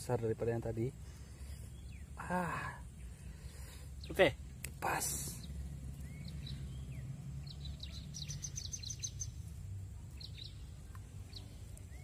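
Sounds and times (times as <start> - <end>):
small birds chirping: 0.0 - 12.0
low steady rumble: 0.8 - 12.0.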